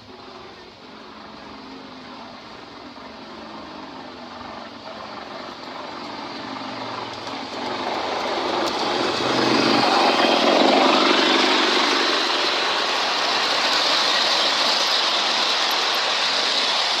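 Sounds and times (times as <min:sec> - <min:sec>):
diesel locomotive engine: 0:00.0 - 0:17.0
train wagons rumbling on rails: 0:00.0 - 0:17.0.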